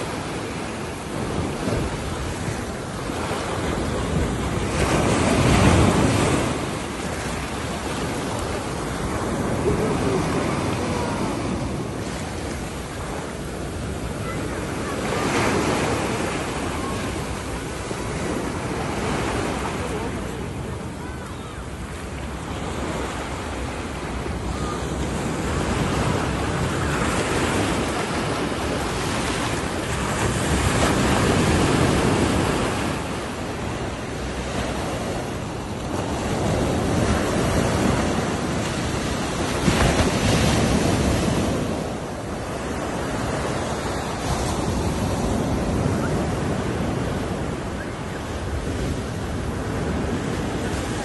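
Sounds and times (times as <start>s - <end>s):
waves breaking on beach: 0.0s - 51.0s.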